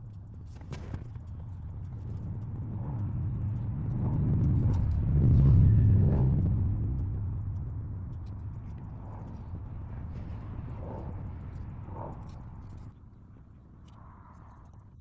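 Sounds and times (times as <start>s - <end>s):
passing vehicle rumble: 1.2s - 13.4s.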